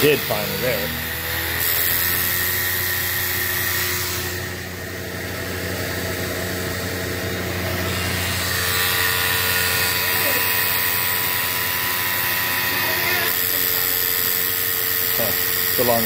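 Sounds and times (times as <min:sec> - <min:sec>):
compressor humming: 0:00.0 - 0:16.0.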